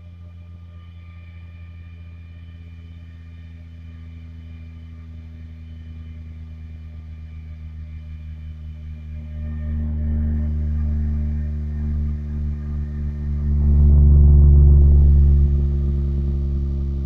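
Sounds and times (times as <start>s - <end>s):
low bass sine tone: 0.0s - 17.0s.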